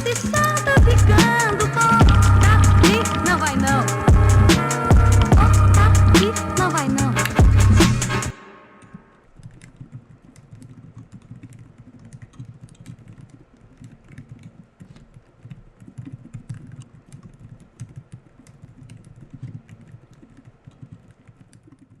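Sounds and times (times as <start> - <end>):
fast soft keyboard typing: 0.0 - 7.0, 9.4 - 22.0.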